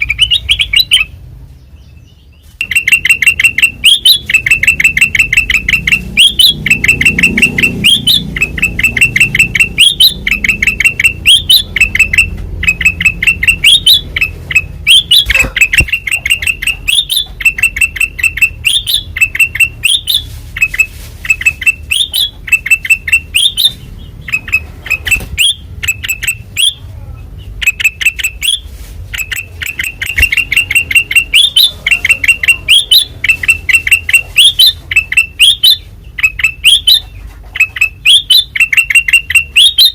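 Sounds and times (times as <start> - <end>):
bulbul singing chattering notes: 0.0 - 39.9.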